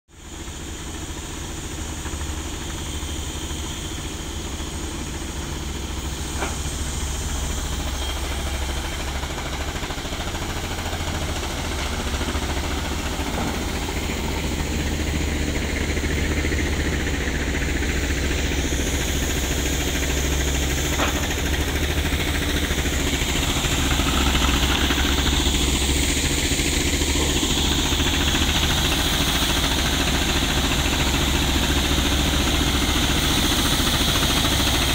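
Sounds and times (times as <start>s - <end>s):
engine rumbling: 0.2s - 34.9s.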